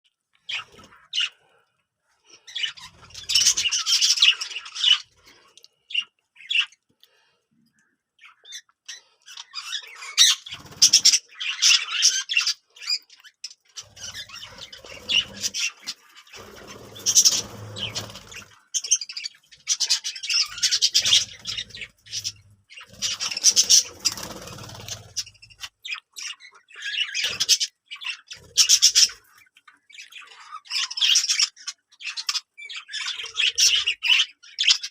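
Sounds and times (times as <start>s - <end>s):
budgerigars chattering and squawking: 0.4s - 1.6s, 2.2s - 6.8s, 8.2s - 34.9s.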